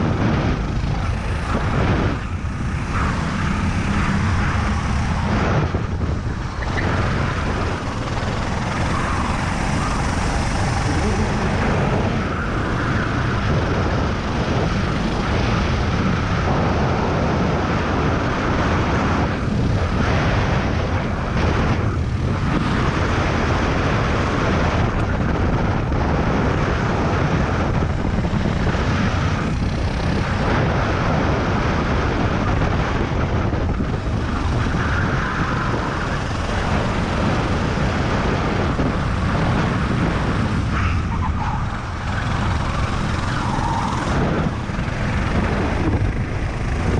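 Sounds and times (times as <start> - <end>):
kart engine running: 0.0 - 46.9
wind rush over microphone: 0.0 - 46.9.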